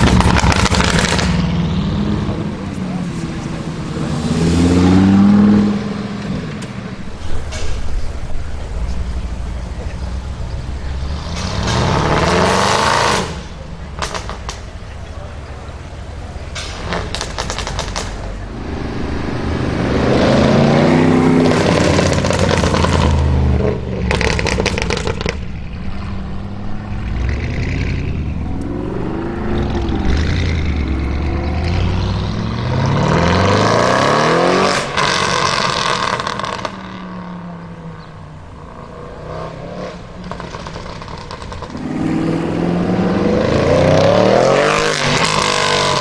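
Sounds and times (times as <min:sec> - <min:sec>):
exhaust crackles and pops: 0:00.0 - 0:04.2, 0:05.0 - 0:46.0
car engine accelerating hard: 0:00.0 - 0:46.0.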